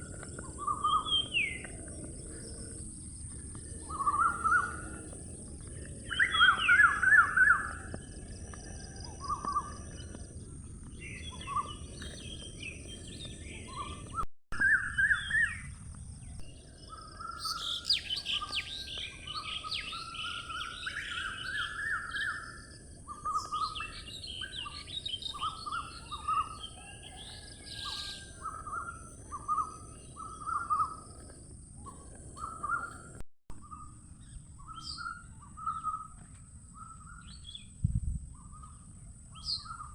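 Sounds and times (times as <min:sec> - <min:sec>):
birds chirping and trilling: 0:00.0 - 0:39.9
outdoor background noise: 0:00.0 - 0:39.9.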